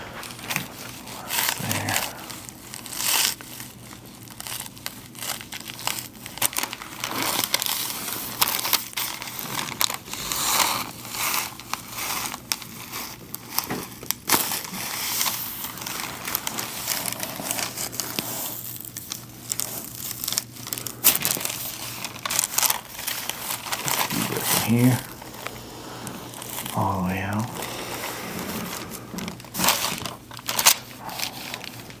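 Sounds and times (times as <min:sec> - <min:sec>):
crinkling rustling: 0:00.0 - 0:32.0.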